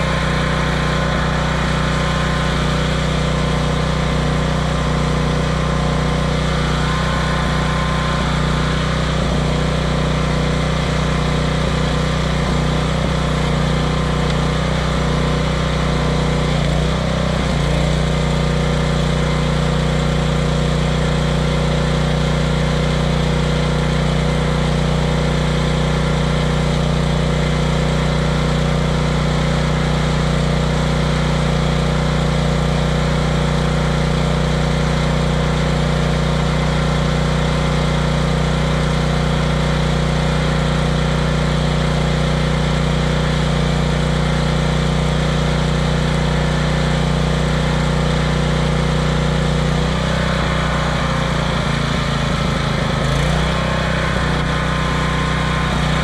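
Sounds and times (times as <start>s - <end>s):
engine hum: 0.0s - 56.0s.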